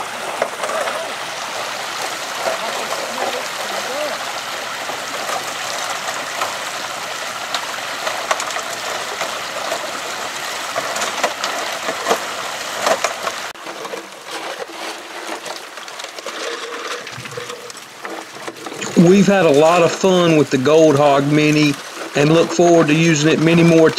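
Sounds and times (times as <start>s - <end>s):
muddy water gushing onto gravel: 0.0s - 23.9s.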